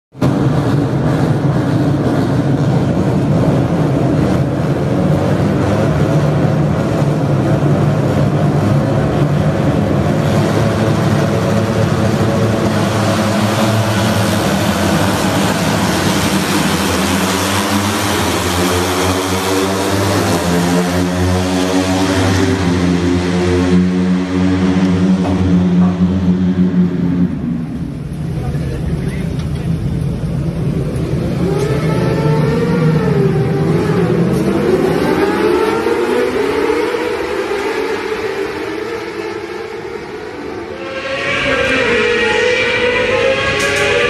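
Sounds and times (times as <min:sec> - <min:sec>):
motorcycle engines at high revs: 0:00.2 - 0:44.0
steady engine note: 0:00.2 - 0:44.0.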